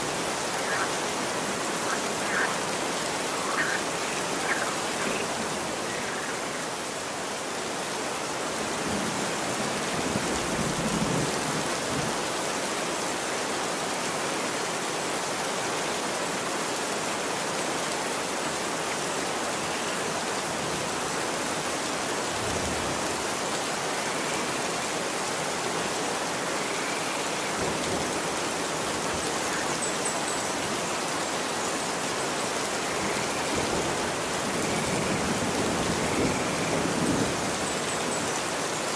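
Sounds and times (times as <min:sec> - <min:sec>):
rain on pavement: 0:00.0 - 0:38.9.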